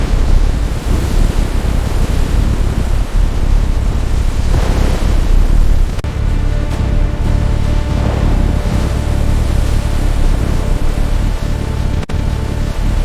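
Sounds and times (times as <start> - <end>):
stormy sea waves: 0.0 - 13.0
wave crash: 0.0 - 13.0
wind: 0.0 - 13.0.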